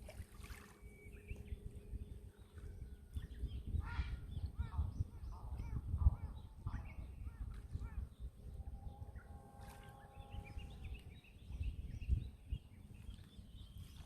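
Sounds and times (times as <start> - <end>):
wind on microphone: 0.0 - 14.0
birds calling: 0.1 - 14.0.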